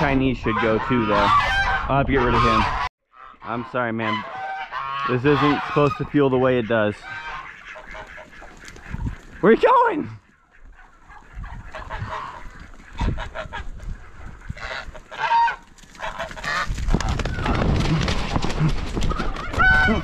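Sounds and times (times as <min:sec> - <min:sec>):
geese honking: 0:00.0 - 0:16.7, 0:19.1 - 0:20.0.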